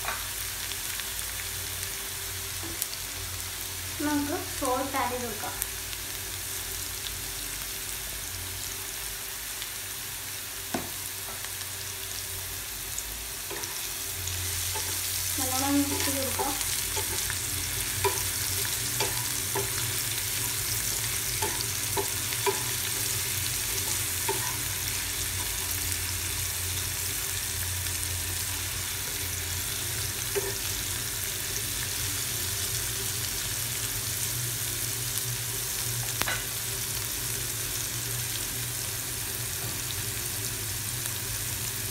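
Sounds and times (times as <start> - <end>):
vegetables sizzling in oil: 0.0 - 41.9.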